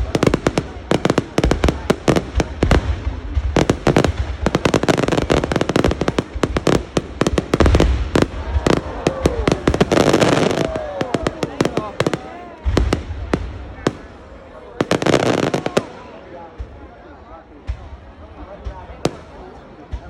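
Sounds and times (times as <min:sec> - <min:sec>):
fireworks cracking and banging: 0:00.0 - 0:20.0
fireworks low booms: 0:00.0 - 0:20.0.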